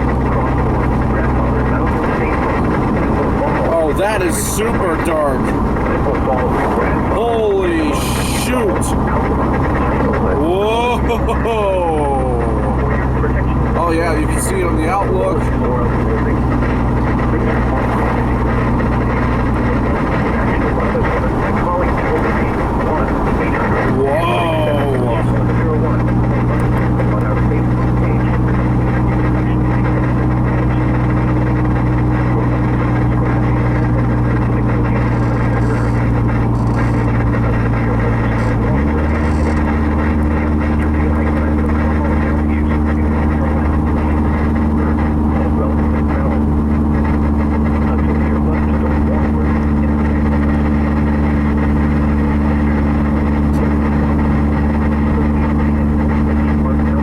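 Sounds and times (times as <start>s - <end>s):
car interior engine and road drone: 0.0s - 57.0s.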